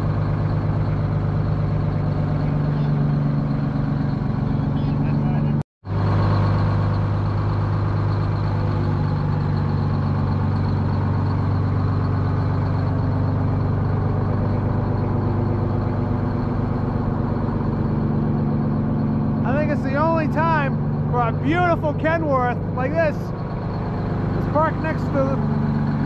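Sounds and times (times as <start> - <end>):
truck diesel engine idling: 0.0 - 26.0.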